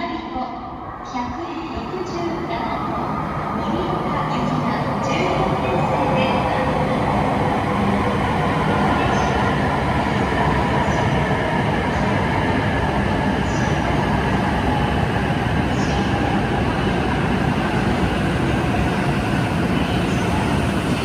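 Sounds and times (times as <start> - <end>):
train rushing and rumbling: 0.3 - 21.0.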